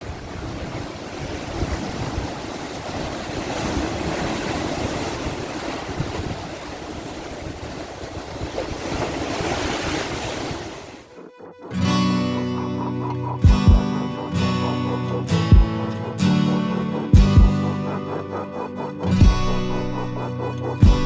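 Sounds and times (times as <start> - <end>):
sea waves on rocky shore: 0.0 - 21.0
wind rumbling on microphone: 0.0 - 21.0.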